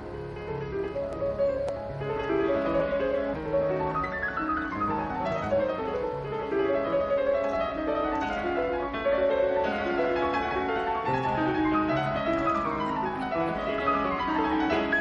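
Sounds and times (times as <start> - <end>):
piano classical music over speakers: 0.0 - 15.0.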